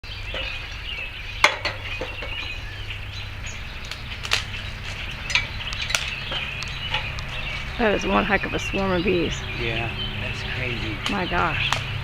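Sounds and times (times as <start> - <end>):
birds chirping: 0.0 - 12.0
low steady hum: 1.0 - 12.0.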